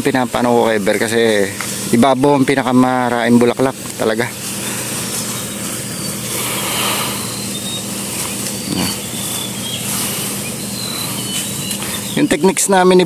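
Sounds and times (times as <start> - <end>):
power sprayer engine running: 0.0 - 13.0.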